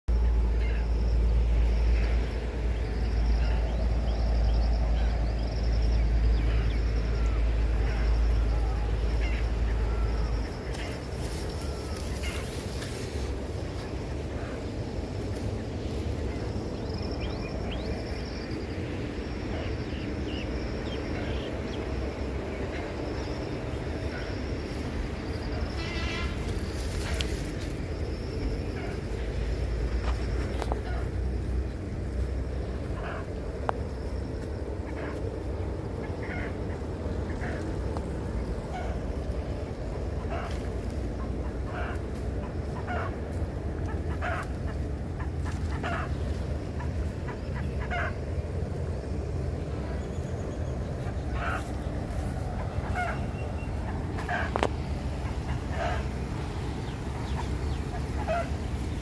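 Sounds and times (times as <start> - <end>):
steady low rumble: 0.0 - 59.0
insects trilling: 0.1 - 59.0.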